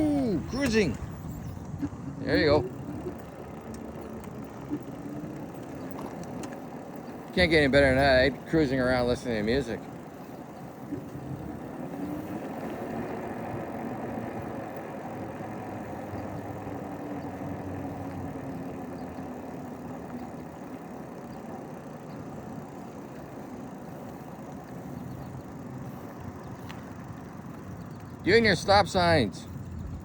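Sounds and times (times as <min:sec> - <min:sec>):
tricycle tyres rolling on pavement: 0:00.0 - 0:30.0.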